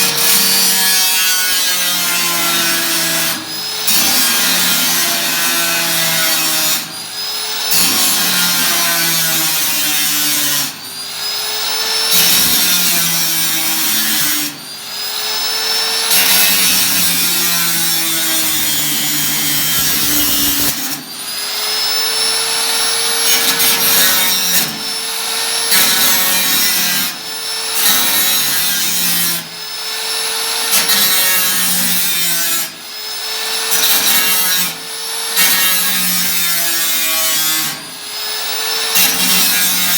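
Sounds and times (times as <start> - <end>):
tool cutting sheet metal: 0.0 - 39.9.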